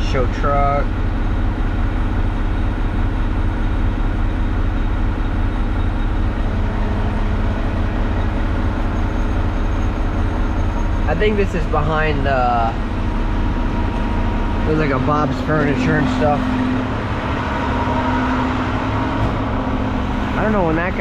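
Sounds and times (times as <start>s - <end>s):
constant hum: 0.0s - 21.0s
truck engine rumble: 0.0s - 21.0s.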